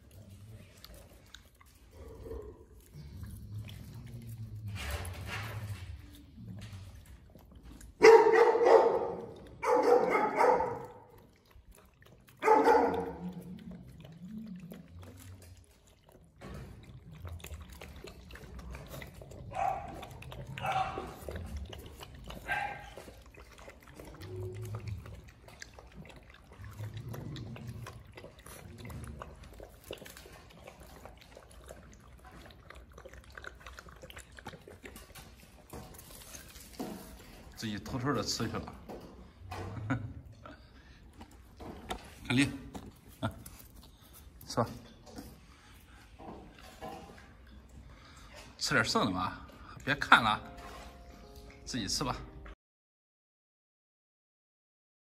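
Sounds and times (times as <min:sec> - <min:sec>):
puppies barking and growling: 0:00.0 - 0:44.5.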